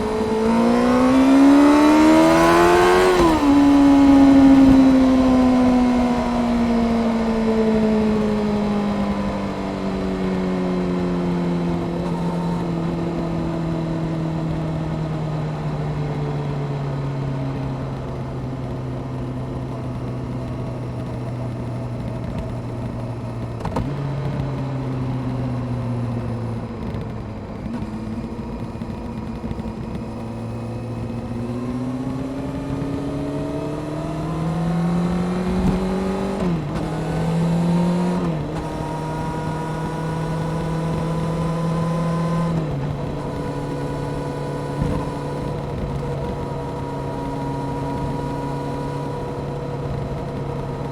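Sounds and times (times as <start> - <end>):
motorcycle engine on the move: 0.0 - 50.9.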